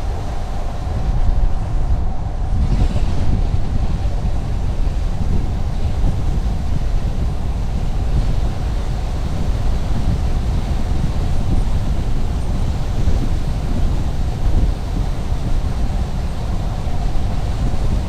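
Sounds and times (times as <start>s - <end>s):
road and wind noise from car: 0.0s - 18.0s.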